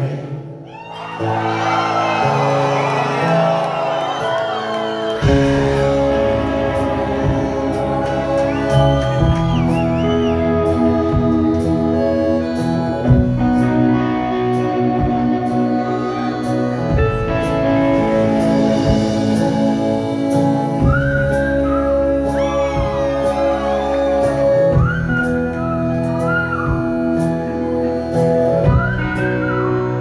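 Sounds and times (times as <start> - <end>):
rock band playing: 0.0 - 30.0
lead guitar bending notes: 2.0 - 30.0.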